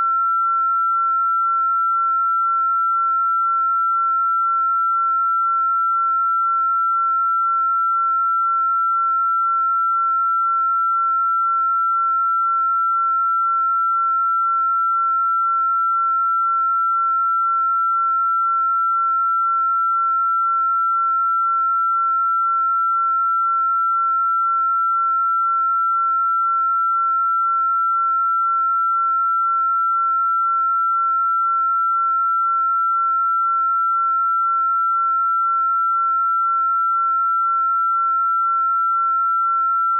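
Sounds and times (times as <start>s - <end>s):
high sine tone: 0.0s - 39.9s.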